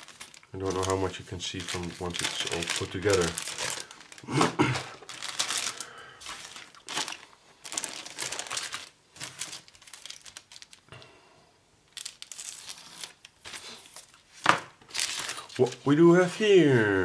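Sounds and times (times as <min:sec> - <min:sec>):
plastic bags crinkling: 0:00.0 - 0:11.0, 0:11.9 - 0:16.5.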